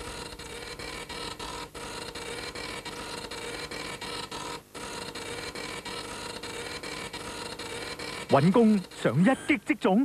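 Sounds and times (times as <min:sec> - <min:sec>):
machine fluttering hum: 0:00.0 - 0:09.0.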